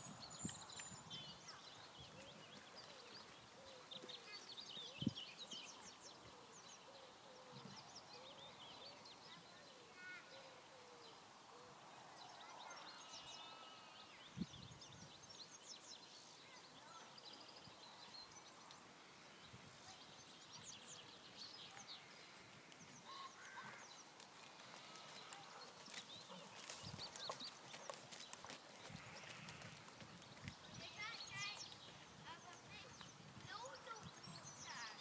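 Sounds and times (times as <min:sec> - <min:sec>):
faint birdsong: 0:00.0 - 0:35.0.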